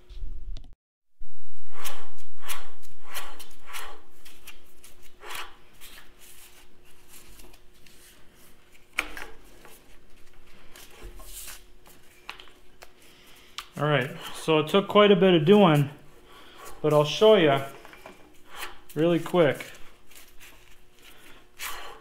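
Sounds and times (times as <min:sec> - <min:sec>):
faint steady hum: 0:01.2 - 0:22.0.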